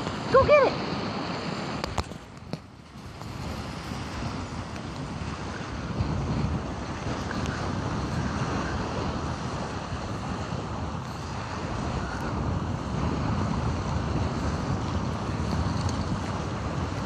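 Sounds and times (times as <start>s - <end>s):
water lapping in small waves: 0.0s - 17.0s
wind buffeting microphone: 0.0s - 17.0s.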